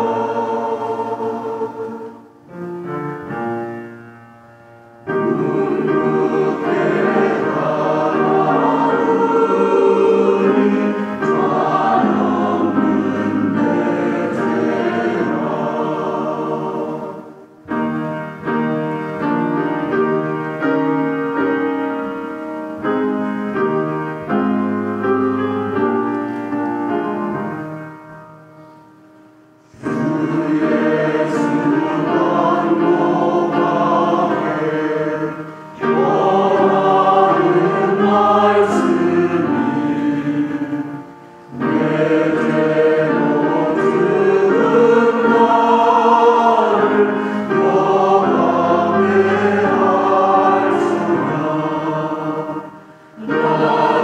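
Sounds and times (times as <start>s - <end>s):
choir singing a hymn: 0.0s - 4.0s, 5.0s - 28.0s, 29.6s - 54.0s
piano playing: 0.0s - 54.0s.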